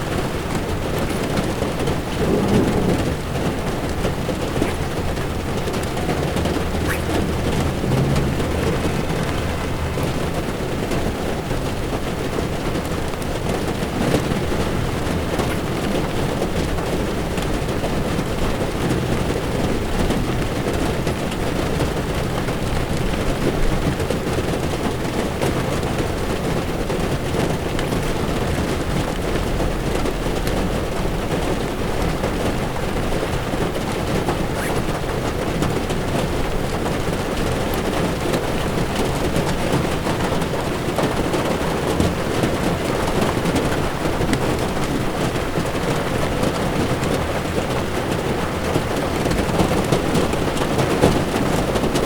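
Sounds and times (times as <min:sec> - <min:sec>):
heavy rain on a car windshield: 0:00.0 - 0:52.0
tyres rumbling on a wet road: 0:00.0 - 0:52.0.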